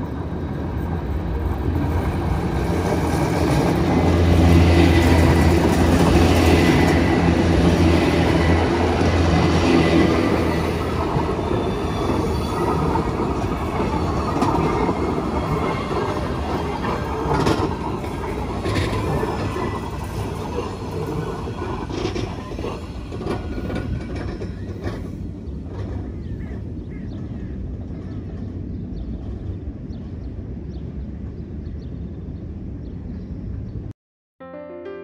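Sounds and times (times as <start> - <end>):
rack railway train clattering: 0.3 - 29.6.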